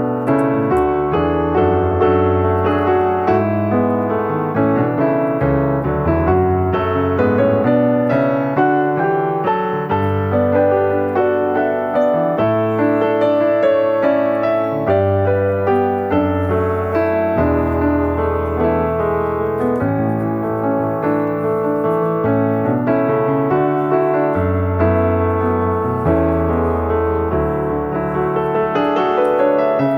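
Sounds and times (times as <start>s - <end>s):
background piano music: 0.0s - 29.9s.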